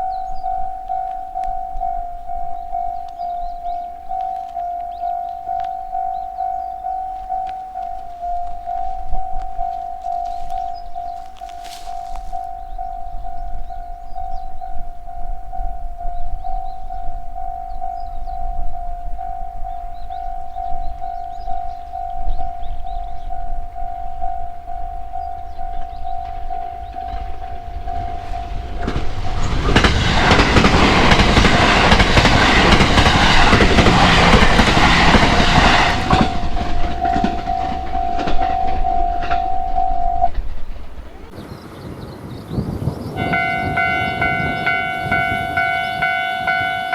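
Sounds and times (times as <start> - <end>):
level crossing bell ringing: 0.0 - 41.4, 43.2 - 46.9
train passing: 0.0 - 46.9.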